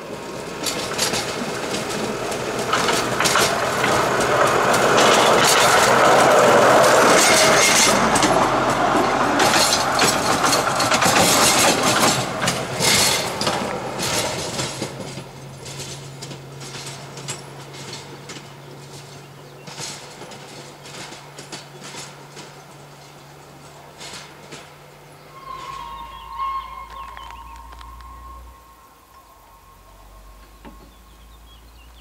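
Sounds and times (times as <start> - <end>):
train rumbling: 0.0 - 32.0
wagons clanking: 0.0 - 32.0.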